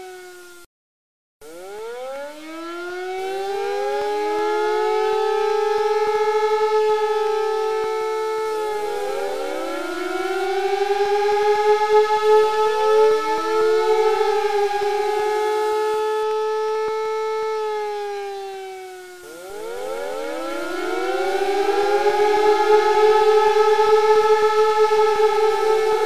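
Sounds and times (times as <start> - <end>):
sirens wailing: 0.0 - 0.6, 1.4 - 26.0.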